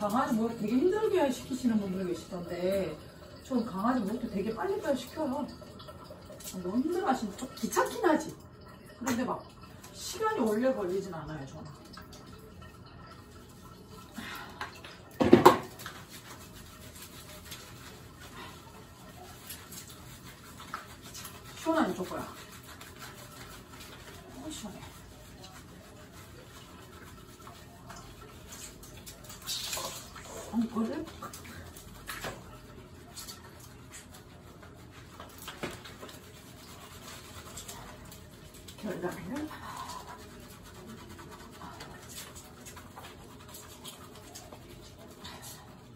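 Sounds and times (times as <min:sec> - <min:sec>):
hands scrubbing wet fur: 0:00.0 - 0:08.4, 0:09.0 - 0:11.5, 0:13.2 - 0:45.9
rubbing and water sounds: 0:00.0 - 0:45.9.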